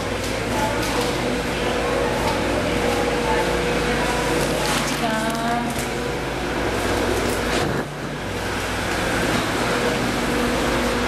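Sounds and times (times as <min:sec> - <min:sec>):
airport machinery drone: 0:00.0 - 0:11.0.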